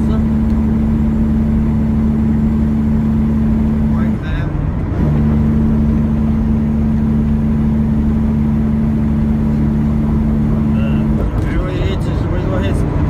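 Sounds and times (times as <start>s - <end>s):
diesel truck engine drone: 0.0s - 13.0s
road rumble: 0.0s - 13.0s.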